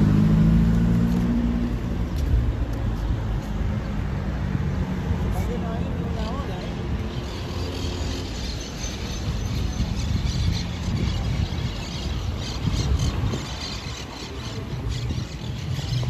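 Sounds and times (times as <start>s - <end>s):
low street rumble: 0.0s - 16.0s.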